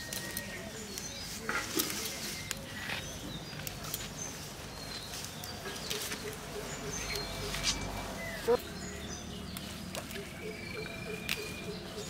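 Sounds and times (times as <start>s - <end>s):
leaves rustling and snapping: 0.0s - 8.0s, 9.4s - 12.0s
small birds chirping: 0.0s - 12.0s.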